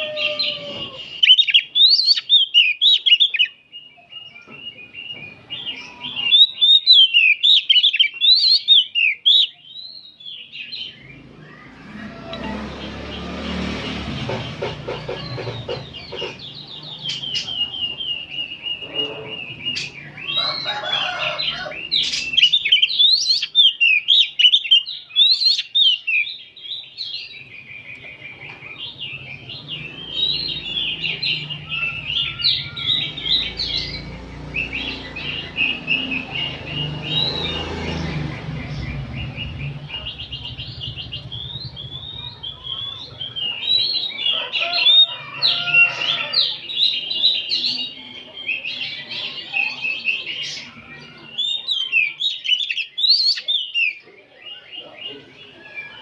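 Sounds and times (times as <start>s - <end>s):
birds singing in chorus: 0.0s - 56.0s.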